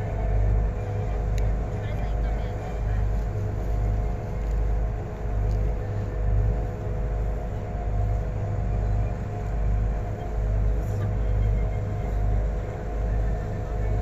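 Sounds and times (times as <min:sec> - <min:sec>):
boat engine rumble: 0:00.0 - 0:14.0
steady drone: 0:00.0 - 0:14.0.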